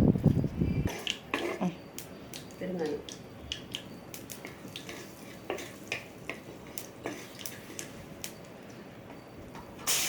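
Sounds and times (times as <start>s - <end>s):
seeds popping in hot oil: 0.1s - 8.8s.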